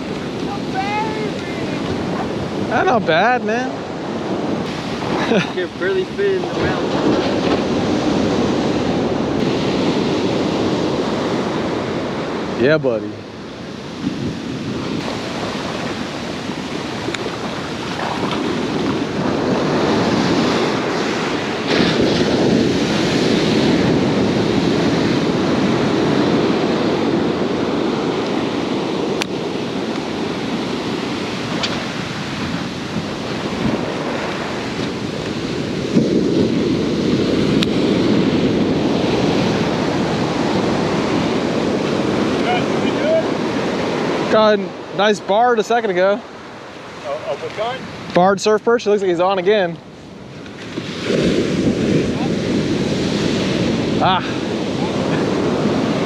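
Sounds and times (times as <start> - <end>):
ocean surf breaking: 0.0 - 56.0
wind buffeting microphone: 0.0 - 56.0.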